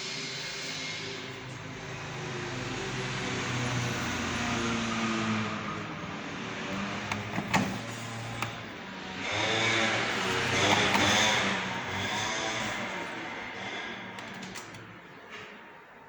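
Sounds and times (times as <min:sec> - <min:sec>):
washing machine motor hum: 0:01.3 - 0:15.4.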